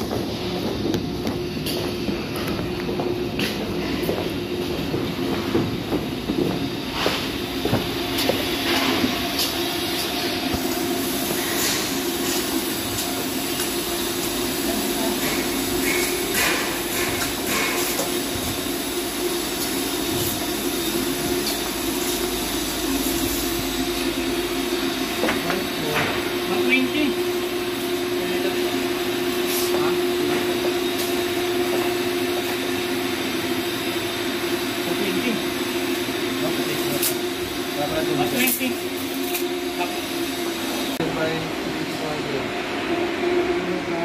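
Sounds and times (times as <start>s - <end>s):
machinery humming: 0.0s - 44.0s.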